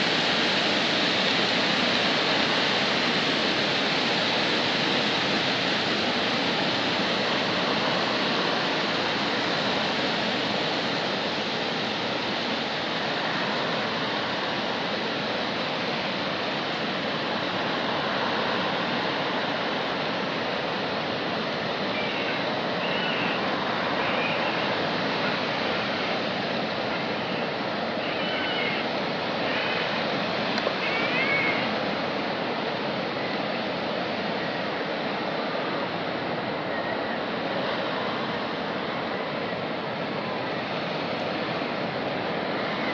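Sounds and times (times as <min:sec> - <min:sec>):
river water roaring over dam: 0:00.0 - 0:42.9.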